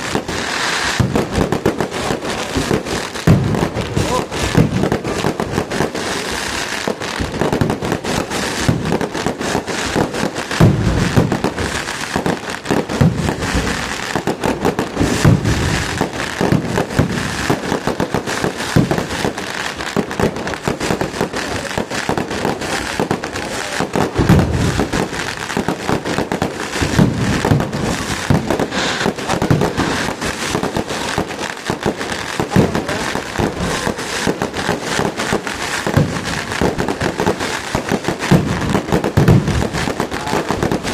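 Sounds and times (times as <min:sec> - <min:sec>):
deep firework booms: 0:00.0 - 0:40.9
fireworks crackling: 0:00.0 - 0:40.9.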